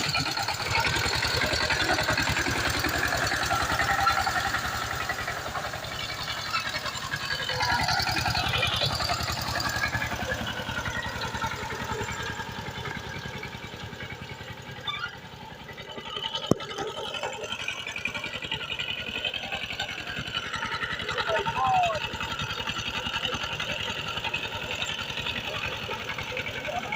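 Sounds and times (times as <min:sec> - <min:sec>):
diesel tiller engine running: 0:00.0 - 0:26.9.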